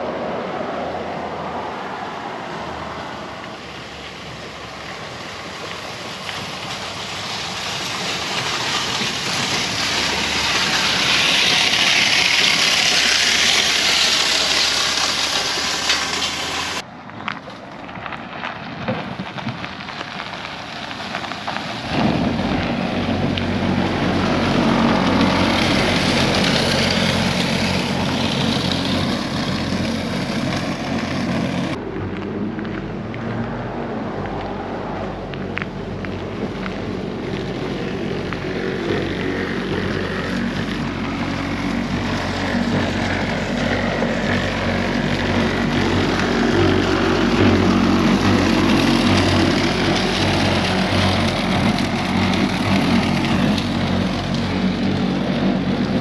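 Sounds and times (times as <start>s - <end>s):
rushing noise: 0.0s - 17.1s, 18.1s - 56.0s
engine hum: 0.0s - 56.0s.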